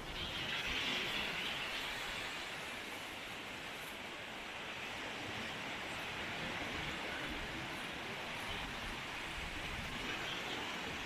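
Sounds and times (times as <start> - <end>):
surf waves washing up beach: 0.0 - 11.0.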